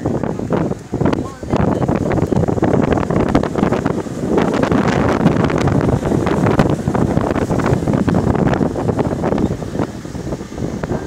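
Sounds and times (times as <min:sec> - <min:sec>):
rush of ship's wake: 0:00.0 - 0:11.0
wind buffeting microphone: 0:00.0 - 0:11.0.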